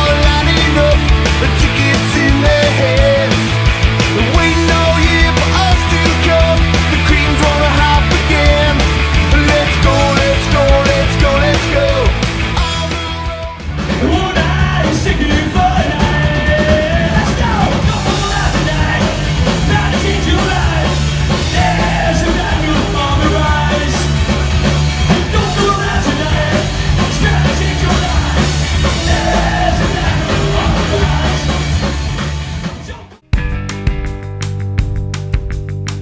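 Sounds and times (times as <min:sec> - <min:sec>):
drums: 0:00.0 - 0:36.0
punk rock band playing live: 0:00.0 - 0:36.0.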